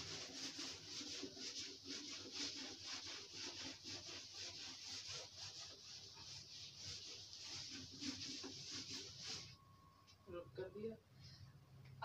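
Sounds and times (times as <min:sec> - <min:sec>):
duster rubbing on chalkboard: 0:00.0 - 0:09.6.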